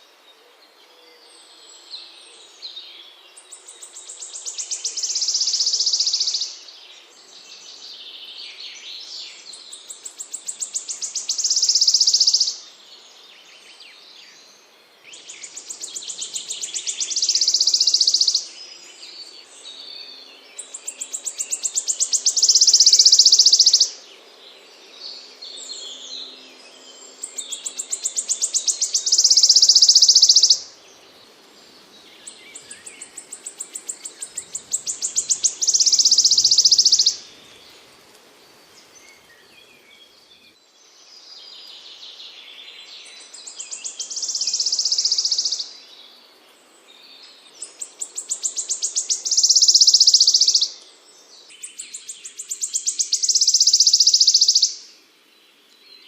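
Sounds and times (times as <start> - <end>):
faint bird chirps: 0.0 - 24.0, 27.0 - 38.1, 38.7 - 54.9
songbird with buzzy trill: 1.4 - 14.5, 15.1 - 30.8, 31.9 - 37.8, 38.8 - 55.0.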